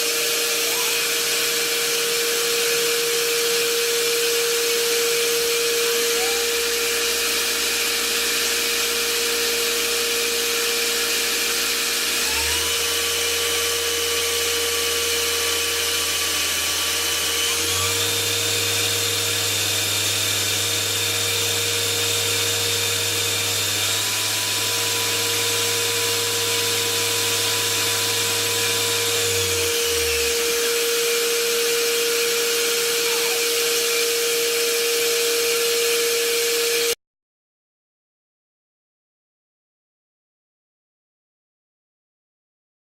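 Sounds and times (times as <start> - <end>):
lathe motor humming: 0.0 - 37.0.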